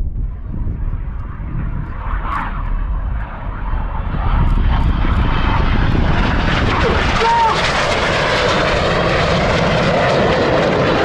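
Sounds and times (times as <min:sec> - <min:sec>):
heavy low rumble: 0:00.0 - 0:11.0
jet engines roaring: 0:00.0 - 0:11.0.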